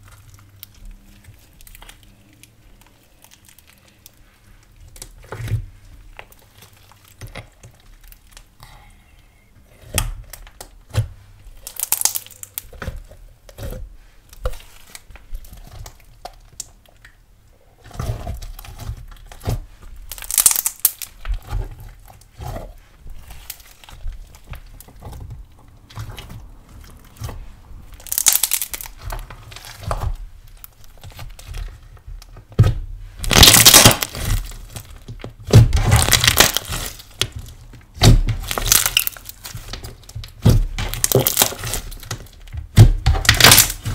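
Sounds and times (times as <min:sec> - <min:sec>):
slime crackling and popping: 0:00.0 - 0:08.6, 0:09.8 - 0:17.2, 0:17.8 - 0:43.9.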